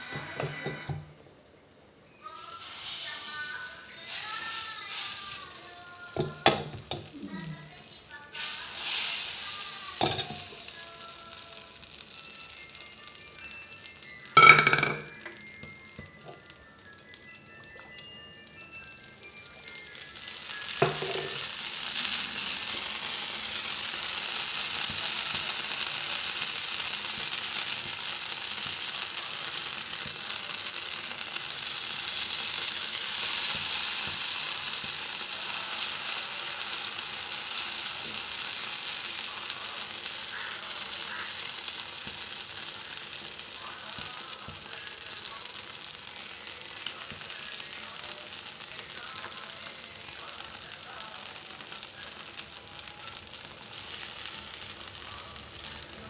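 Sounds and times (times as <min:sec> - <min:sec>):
batter sizzling on a hot pan: 0:00.0 - 0:56.0.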